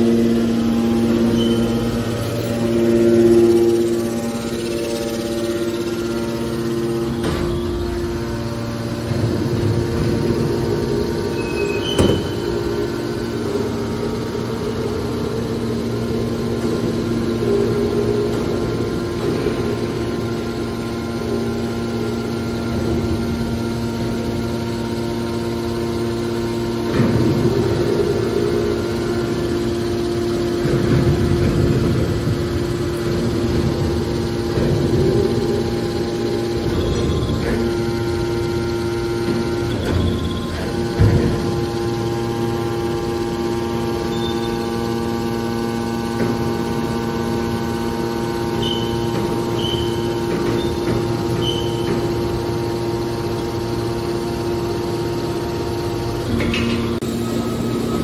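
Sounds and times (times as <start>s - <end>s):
hydraulic power unit humming: 0.0s - 58.0s.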